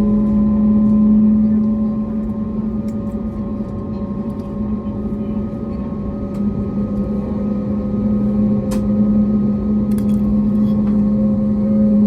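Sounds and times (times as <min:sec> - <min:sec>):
jet engine hum in cabin: 0:00.0 - 0:12.0.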